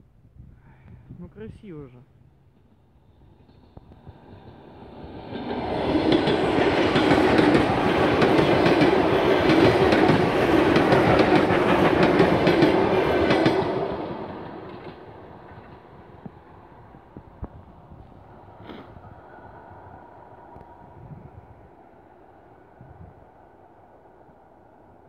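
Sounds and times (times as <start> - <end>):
electric train passing: 2.2 - 25.0.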